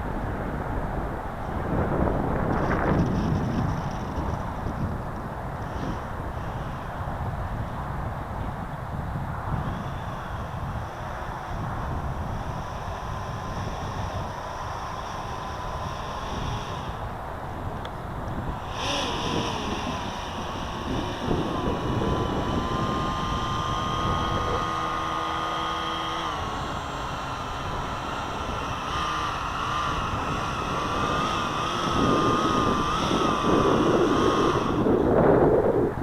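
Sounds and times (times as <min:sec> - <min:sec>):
electric plane motor whining: 0:00.0 - 0:36.0
wind rumble on microphone: 0:00.0 - 0:36.0.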